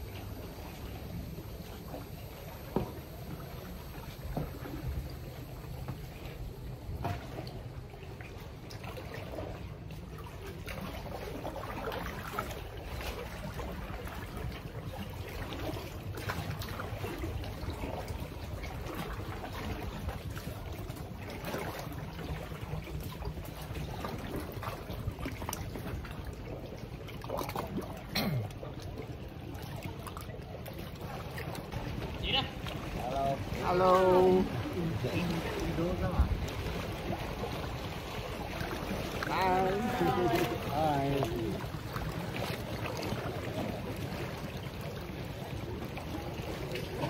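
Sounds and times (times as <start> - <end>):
water lapping around a canoe: 0.0 - 47.0.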